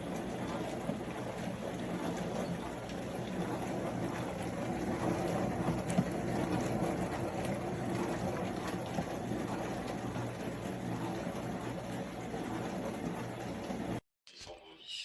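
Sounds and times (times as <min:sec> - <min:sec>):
dishwasher pump hum: 0:00.0 - 0:14.0.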